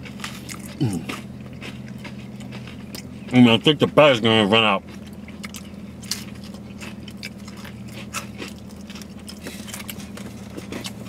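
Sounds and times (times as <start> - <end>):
crunchy chewing: 0.0 - 3.9, 4.8 - 11.0
low steady hum: 0.0 - 11.0.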